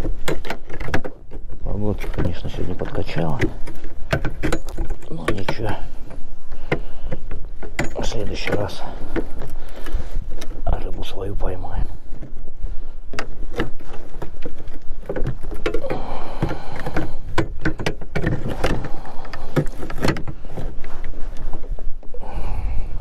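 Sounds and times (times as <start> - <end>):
sharp knocks and clatter: 0.0 - 10.6, 13.1 - 21.1
wind buffeting microphone: 0.0 - 23.0.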